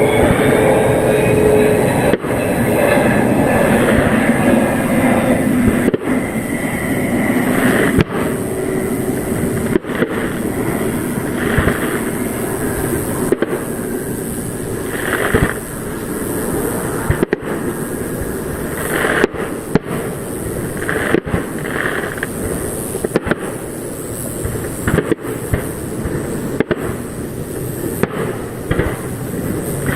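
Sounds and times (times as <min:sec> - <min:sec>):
faint fireworks whistling: 0:00.0 - 0:29.9
fireworks bursting and crackling: 0:00.0 - 0:29.9.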